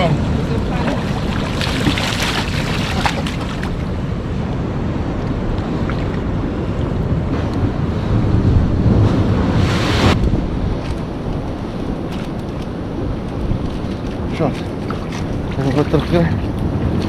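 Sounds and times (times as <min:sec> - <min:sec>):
sea surf washing on shore: 0:00.0 - 0:04.5, 0:07.7 - 0:17.0
wind buffeting microphone: 0:00.0 - 0:17.0.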